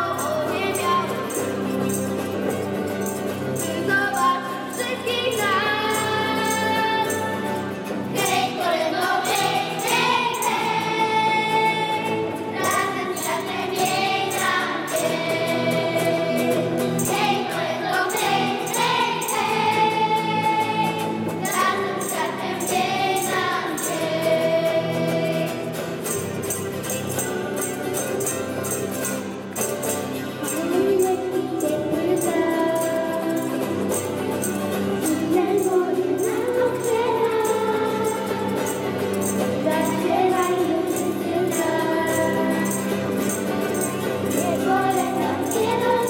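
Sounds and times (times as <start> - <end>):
children's choir singing: 0.0 - 27.0, 30.4 - 46.0
backing music: 0.0 - 46.0
jingling beat: 0.0 - 46.0.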